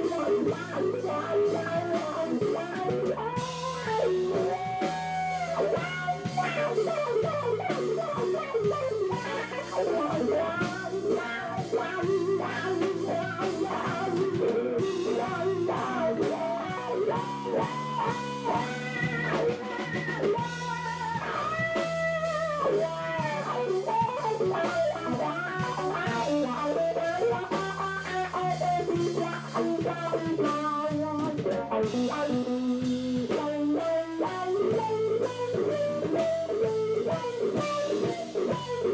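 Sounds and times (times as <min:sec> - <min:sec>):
bass guitar: 0:00.0 - 0:38.9
drum kit: 0:00.0 - 0:38.9
electric guitar lead with bent notes: 0:00.0 - 0:38.9.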